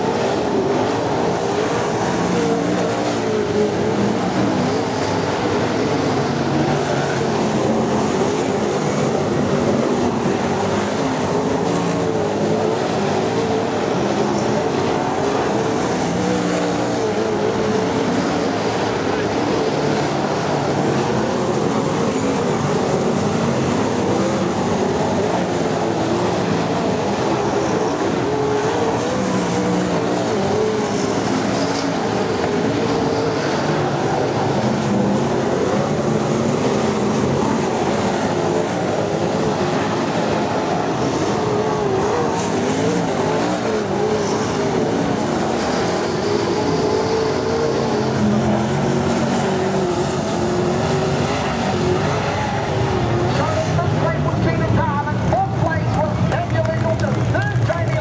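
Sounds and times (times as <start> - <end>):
race car engines running: 0.0 - 58.0.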